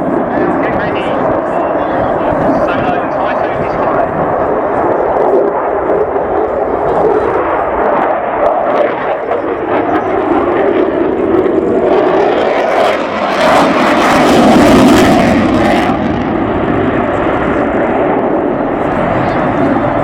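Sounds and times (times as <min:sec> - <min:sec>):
aircraft flying past: 0:00.0 - 0:20.0.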